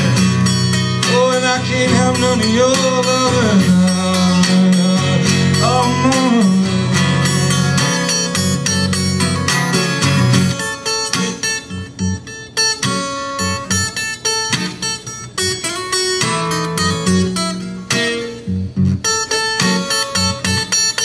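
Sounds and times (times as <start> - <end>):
acoustic blues guitar picking: 0.0 - 21.0.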